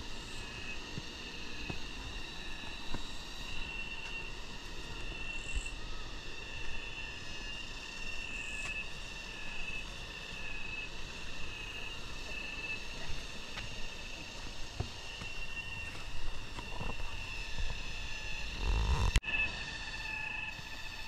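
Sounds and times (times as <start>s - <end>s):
cicadas singing: 0.0s - 21.0s.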